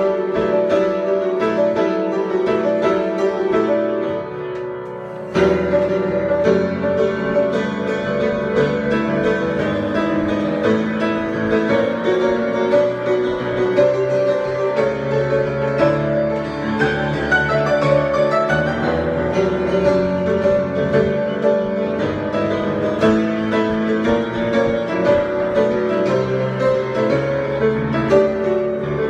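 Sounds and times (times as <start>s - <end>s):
piano improvisation: 0.0s - 29.0s.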